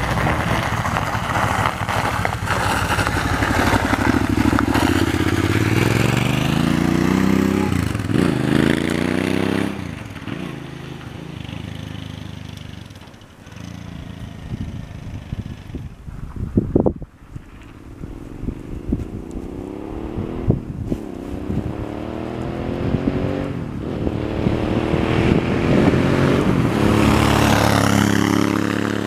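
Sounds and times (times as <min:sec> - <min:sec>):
buggy engine accelerating: 0:00.0 - 0:29.0.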